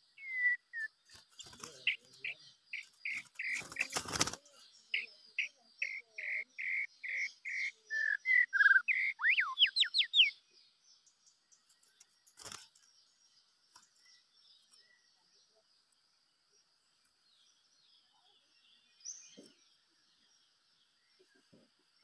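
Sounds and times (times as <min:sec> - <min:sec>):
faint bird chirps: 0:00.0 - 0:22.0.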